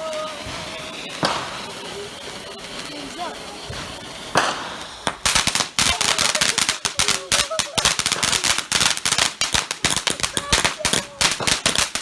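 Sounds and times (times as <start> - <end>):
firecracker cracks and bangs: 0.0 - 12.0
firework hissing: 0.0 - 12.0.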